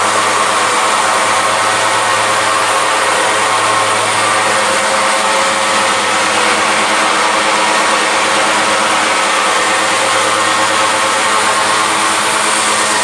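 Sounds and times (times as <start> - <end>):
furnace air blast rushing: 0.0 - 13.0
low machine hum: 0.0 - 13.0.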